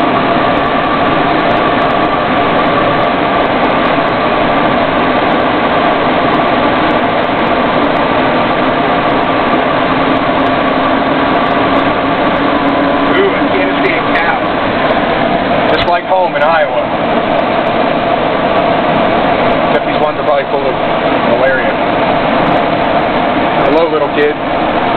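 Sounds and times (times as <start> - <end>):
road noise: 0.0 - 24.9
steady tones: 0.0 - 24.9
vehicle engine drone: 0.0 - 24.9.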